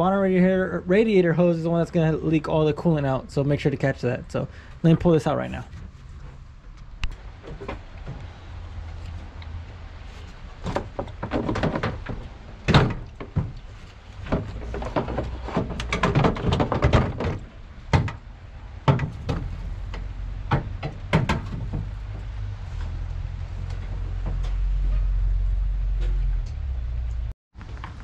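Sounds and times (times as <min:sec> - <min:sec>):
knocks clunks and scraping: 0:00.0 - 0:28.0.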